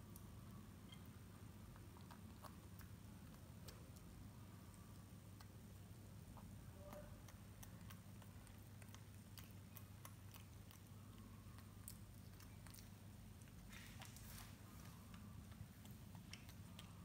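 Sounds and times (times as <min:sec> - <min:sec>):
low steady hum: 0:00.0 - 0:17.0
monkey eating and chewing: 0:00.9 - 0:17.0.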